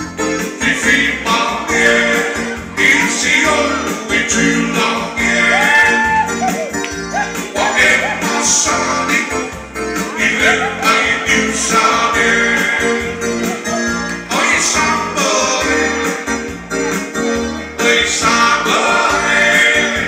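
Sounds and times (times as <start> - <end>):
dance music: 0.0 - 20.0
guitar: 0.0 - 20.0
person singing: 0.5 - 20.0.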